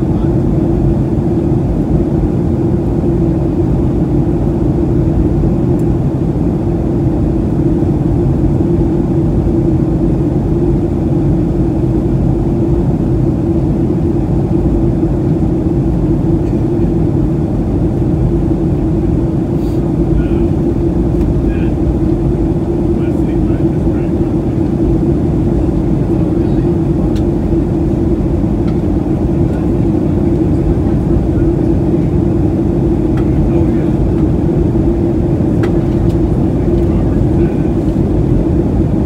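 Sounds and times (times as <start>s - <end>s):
aircraft engine drone: 0.0s - 39.0s
airflow: 0.0s - 39.0s
constant low hum: 0.0s - 39.0s.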